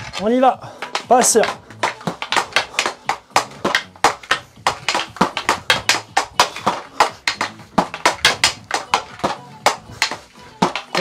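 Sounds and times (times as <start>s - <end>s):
hockey stick and puck clacking: 0.0s - 11.0s.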